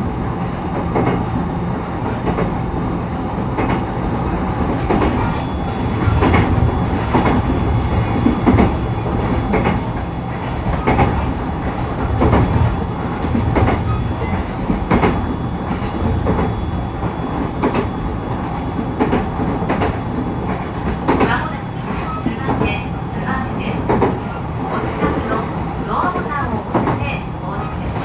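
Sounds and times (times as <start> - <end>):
electric train rumble: 0.0 - 28.0
wheels clacking over rail joints: 3.6 - 28.0.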